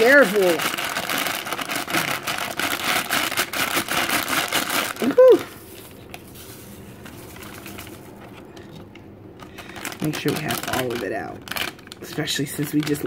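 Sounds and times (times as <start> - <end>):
plastic pouch crinkling: 0.0 - 13.0.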